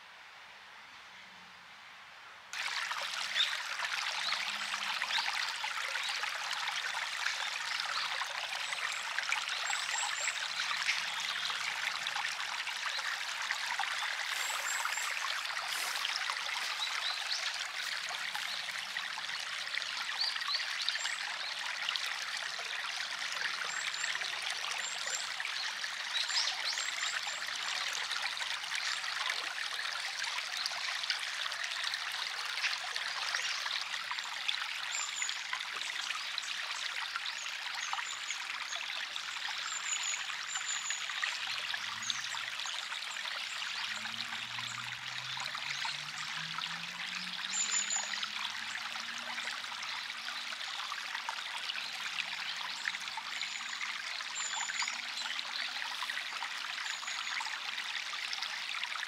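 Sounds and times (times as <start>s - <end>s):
stream water flowing: 2.5s - 59.0s.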